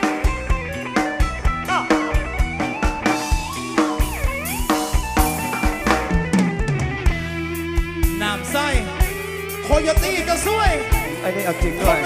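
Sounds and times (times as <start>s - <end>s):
bass: 0.0s - 12.0s
drum kit beat: 0.0s - 12.0s.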